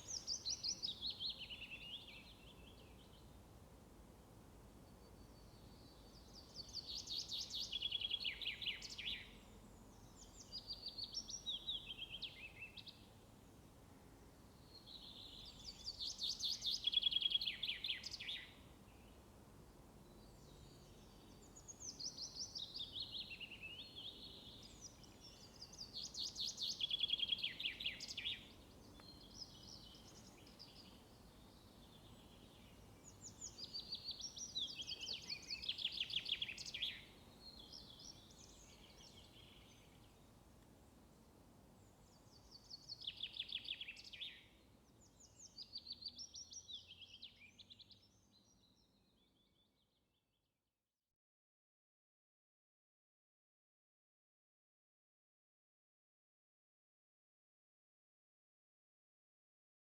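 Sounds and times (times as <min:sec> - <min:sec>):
faint outdoor hiss: 0:00.0 - 0:50.2.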